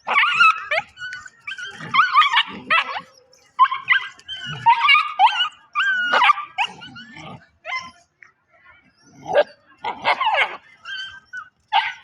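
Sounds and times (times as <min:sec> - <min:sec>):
puppies yipping and whining: 0:00.0 - 0:08.2, 0:08.8 - 0:12.0.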